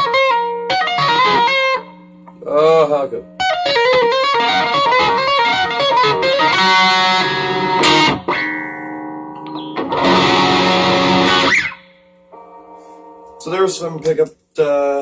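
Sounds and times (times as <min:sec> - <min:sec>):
electric guitar notes and chords: 0:00.0 - 0:13.5.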